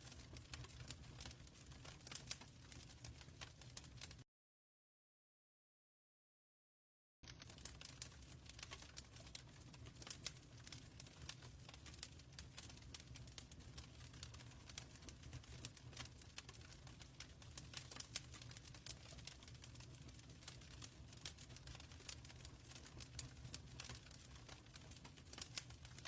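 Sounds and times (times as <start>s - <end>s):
wood fire crackling: 0.0s - 4.2s, 7.2s - 26.0s.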